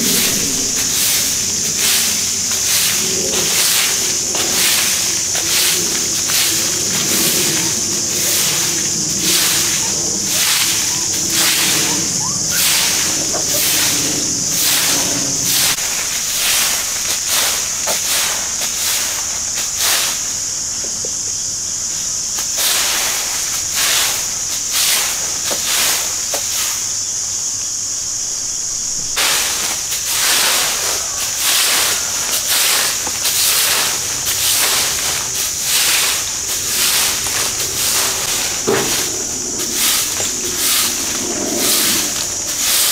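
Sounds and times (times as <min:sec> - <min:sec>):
broom sweeping dirt and leaves: 0:00.0 - 0:42.9.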